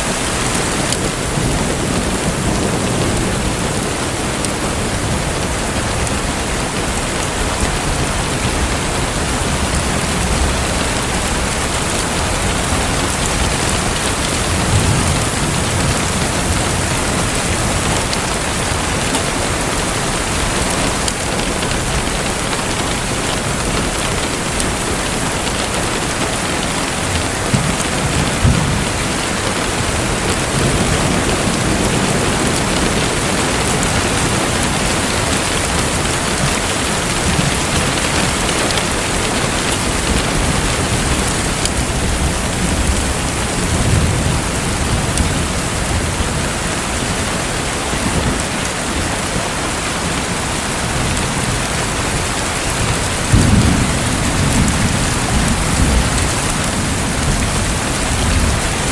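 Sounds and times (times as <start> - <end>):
rushing splashing water: 0.0 - 58.9.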